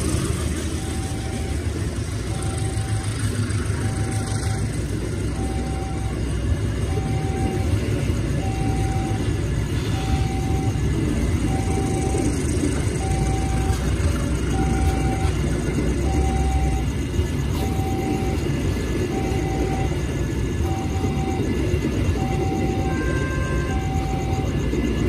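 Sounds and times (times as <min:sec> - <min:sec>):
level-crossing warning alarm: 0:00.0 - 0:25.0
train coaches rumbling on rails: 0:00.0 - 0:25.0.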